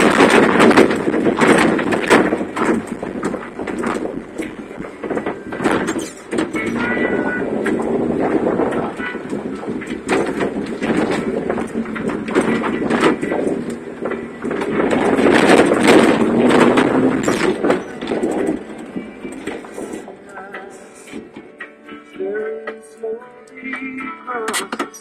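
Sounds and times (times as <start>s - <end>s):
rattling and knocking: 0.0s - 21.5s
vehicle driving over rough ground: 0.0s - 22.4s.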